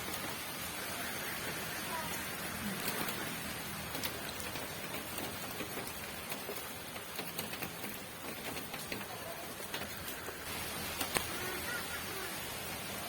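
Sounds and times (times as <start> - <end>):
rain hiss: 0.0 - 13.0
raindrops tapping on a surface: 0.0 - 13.0.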